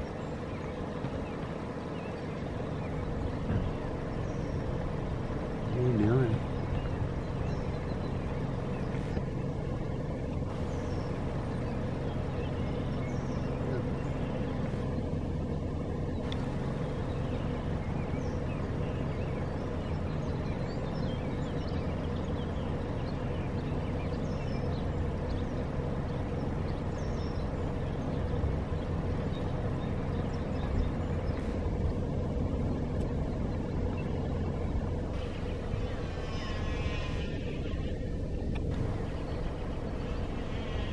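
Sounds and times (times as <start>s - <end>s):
birds chirping: 0.0s - 40.9s
car engine idling: 0.0s - 40.9s.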